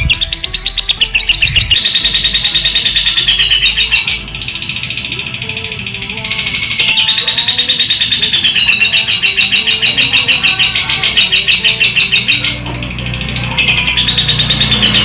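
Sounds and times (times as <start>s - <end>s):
lovebird chattering trill: 0.0s - 15.0s.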